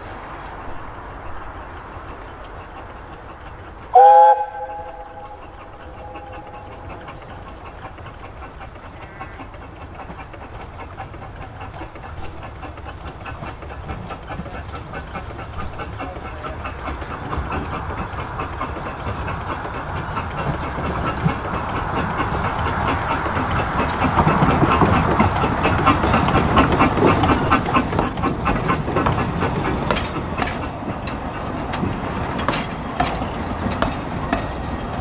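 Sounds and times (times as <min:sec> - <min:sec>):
steam locomotive exhaust beating: 0:00.0 - 0:35.0.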